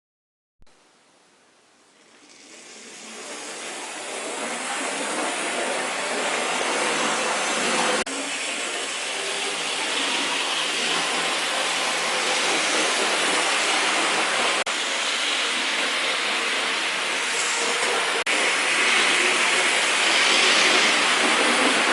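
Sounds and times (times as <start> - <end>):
model train motor whirring: 2.1 - 21.9.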